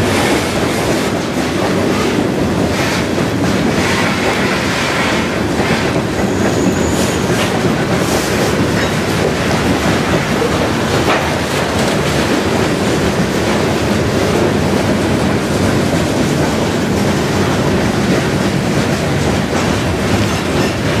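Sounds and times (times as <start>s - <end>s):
train wheels rumbling on rails: 0.0s - 21.0s
wheels clicking over rail joints: 0.0s - 21.0s.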